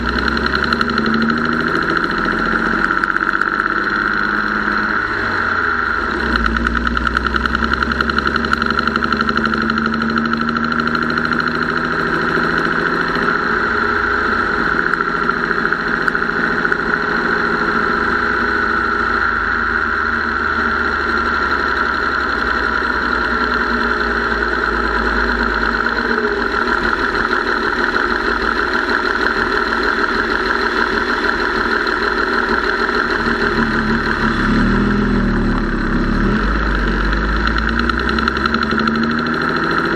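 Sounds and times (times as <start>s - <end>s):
engine idling with ticking: 0.0s - 39.9s.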